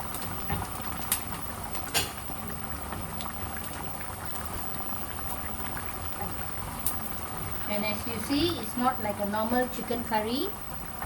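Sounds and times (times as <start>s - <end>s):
food frying in oil: 0.0s - 11.0s.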